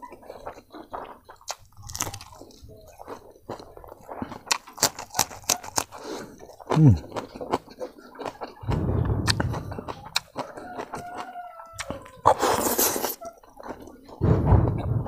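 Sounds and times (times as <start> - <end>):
chewing mouth sounds: 0.0 - 14.2
chilli crunching: 0.0 - 14.8.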